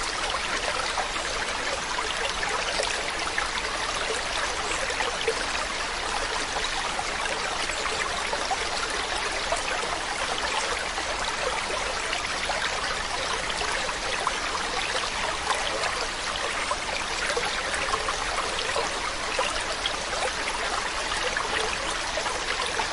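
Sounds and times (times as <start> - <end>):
small splashes and trickles: 0.0 - 22.9
stream water rushing: 0.0 - 22.9.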